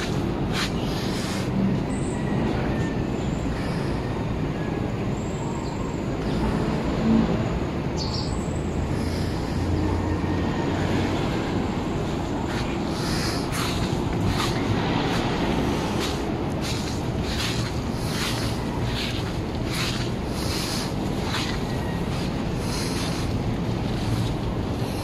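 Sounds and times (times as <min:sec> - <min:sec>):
low rumbling background noise: 0:00.0 - 0:25.0.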